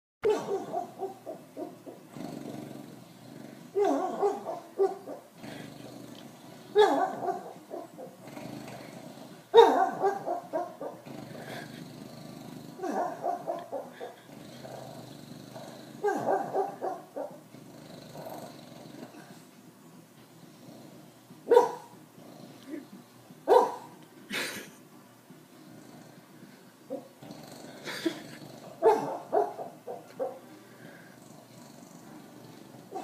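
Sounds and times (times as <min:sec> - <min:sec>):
dog grumbling: 0:00.2 - 0:19.6, 0:20.3 - 0:24.8, 0:25.4 - 0:33.0.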